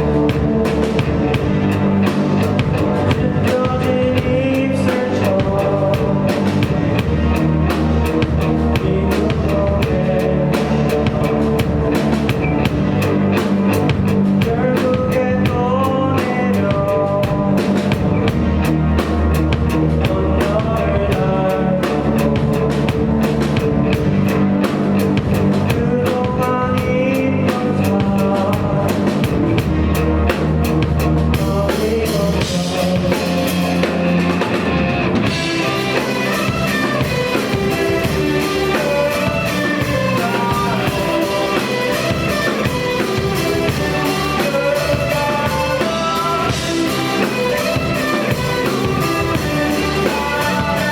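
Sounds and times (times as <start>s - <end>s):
live rock band over speakers: 0.0s - 50.9s.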